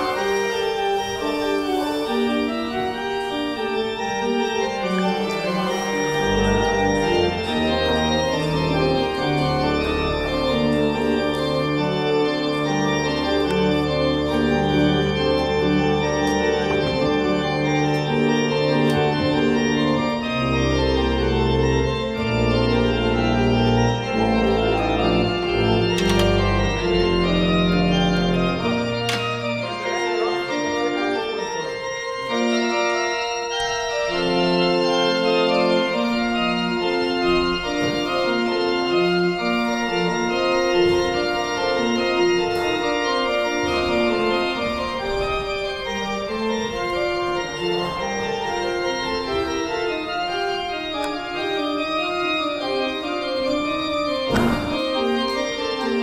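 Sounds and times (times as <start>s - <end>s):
deep organ pedal bass notes: 0.0s - 56.0s
pipe organ chords: 0.0s - 56.0s.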